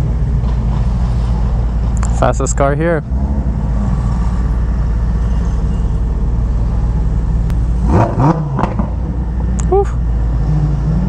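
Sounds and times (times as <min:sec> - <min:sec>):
engine idling and revving: 0:00.0 - 0:11.0.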